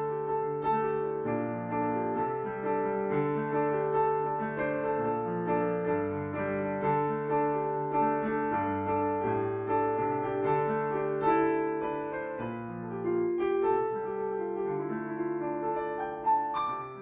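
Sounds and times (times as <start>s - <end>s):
bluesy solo piano: 0.0s - 17.0s.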